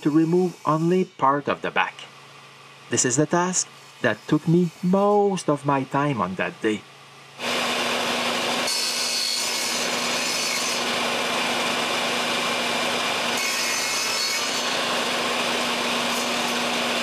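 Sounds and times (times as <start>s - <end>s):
power tool cutting wood: 0.0s - 2.1s, 2.9s - 5.6s, 6.2s - 17.0s.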